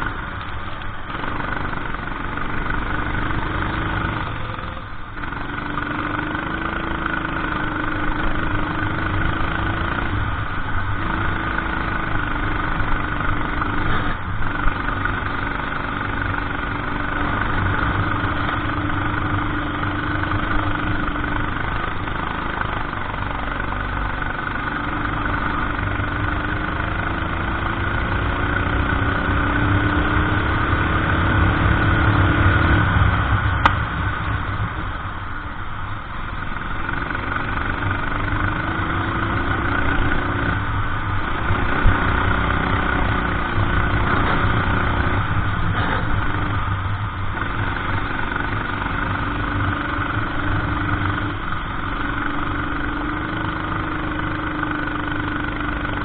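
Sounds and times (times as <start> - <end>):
racing kart engine revving: 1.0 - 34.7, 36.4 - 56.0.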